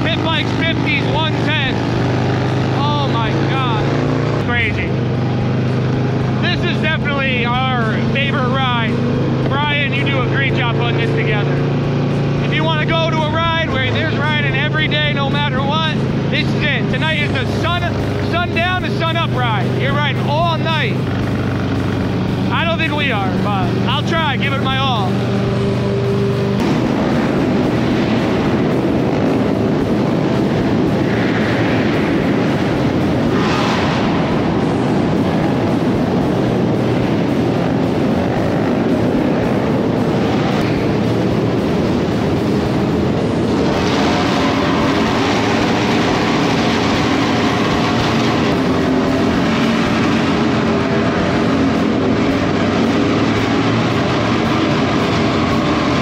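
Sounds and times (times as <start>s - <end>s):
motorcycle engine rumble: 0.0s - 56.0s
road and wind noise: 0.0s - 56.0s.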